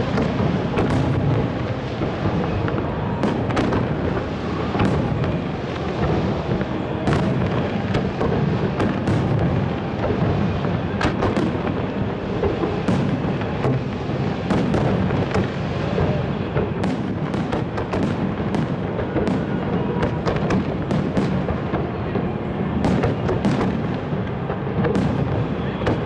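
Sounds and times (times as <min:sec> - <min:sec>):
fireworks cracks and bangs: 0:00.0 - 0:26.0
fireworks rumbling: 0:00.0 - 0:26.0.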